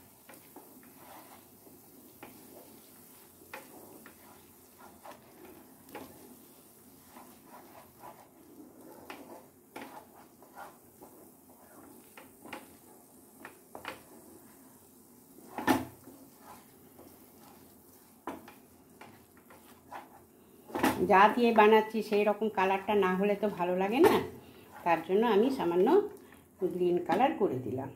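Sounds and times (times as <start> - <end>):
wooden spatula scraping pan: 0.0 - 21.3, 22.7 - 27.2.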